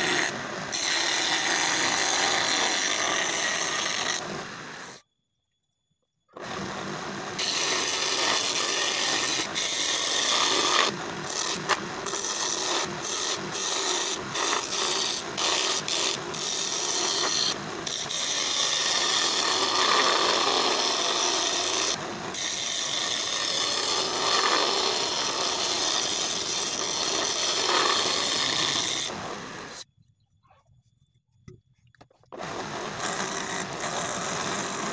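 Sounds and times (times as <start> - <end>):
chisel scraping wood on lathe: 0.0 - 5.0, 7.4 - 29.8, 32.4 - 34.9
lathe motor: 0.0 - 5.0, 6.4 - 29.8, 32.4 - 34.9.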